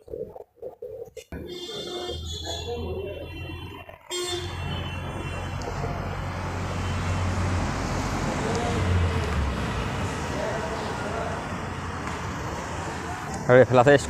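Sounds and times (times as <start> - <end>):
road noise: 0.0 - 14.0
traffic engine rumble: 0.0 - 14.0.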